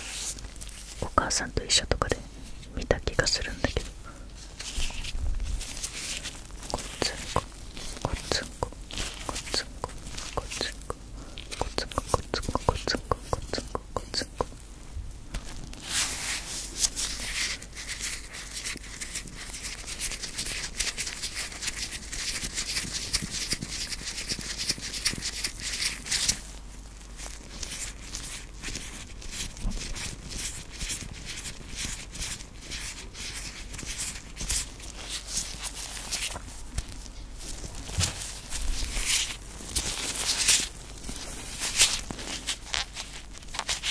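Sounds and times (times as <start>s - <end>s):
rubber gloves rubbing and crackling: 0.0s - 43.9s.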